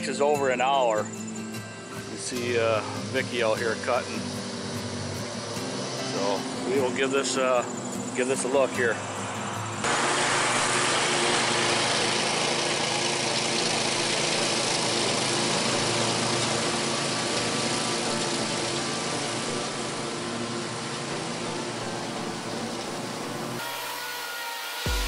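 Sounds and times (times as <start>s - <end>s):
lawn mower running: 0.0s - 24.0s.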